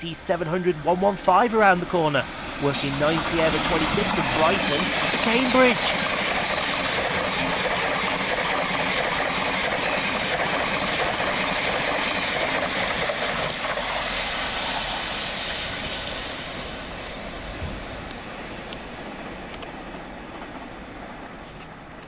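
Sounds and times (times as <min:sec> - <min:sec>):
electric train passing through: 0:00.0 - 0:22.0
train wheels and traction noise: 0:00.0 - 0:22.0.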